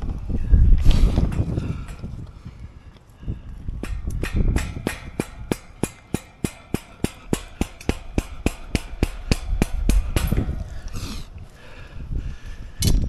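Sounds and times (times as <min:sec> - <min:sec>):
hammer blows: 0:00.0 - 0:02.6, 0:03.6 - 0:11.9
wind rumbling on microphone: 0:00.0 - 0:13.0.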